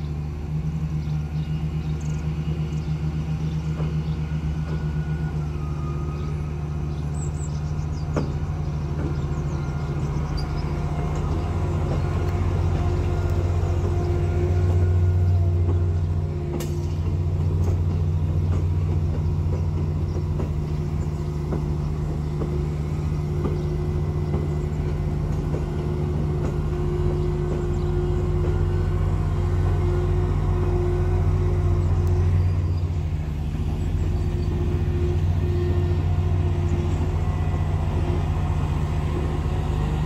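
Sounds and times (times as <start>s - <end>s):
diesel train engines droning: 0.0s - 40.0s.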